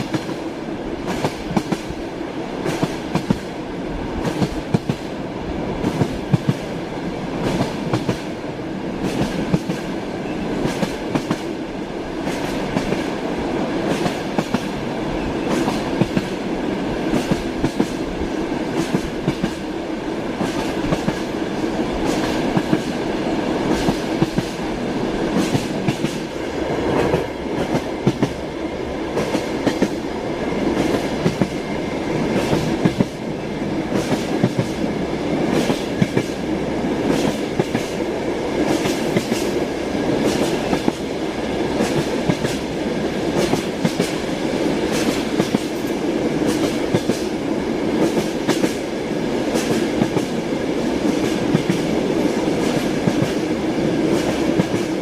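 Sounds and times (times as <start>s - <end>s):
train wheels clickety-clack: 0.0s - 55.0s.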